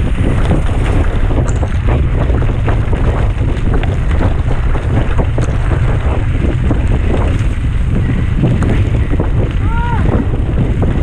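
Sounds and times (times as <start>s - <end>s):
bike rattling and knocking: 0.0s - 11.0s
wind buffeting microphone: 0.0s - 11.0s.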